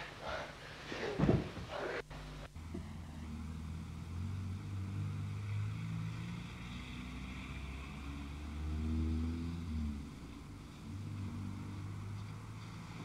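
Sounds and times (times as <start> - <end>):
car engine drone from inside: 2.0 - 13.0.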